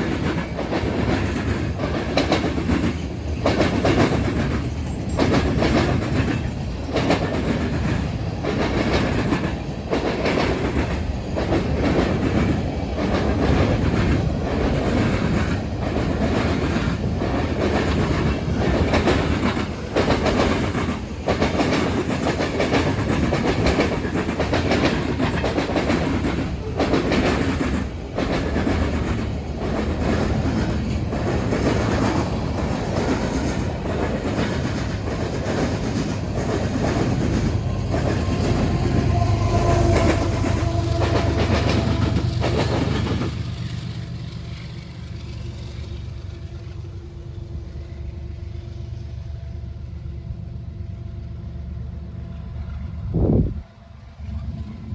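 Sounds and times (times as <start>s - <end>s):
train wheels clattering over crossing: 0.0s - 47.1s
freight train rumble: 0.0s - 54.9s.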